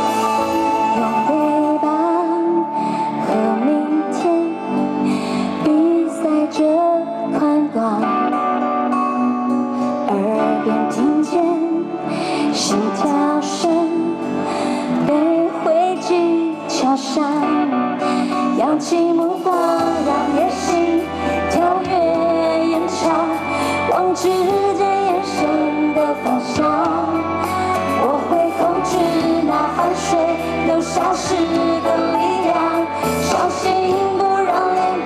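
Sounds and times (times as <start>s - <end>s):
amplified backing music with guitar: 0.0s - 35.0s
woman singing pop ballad: 0.0s - 35.0s.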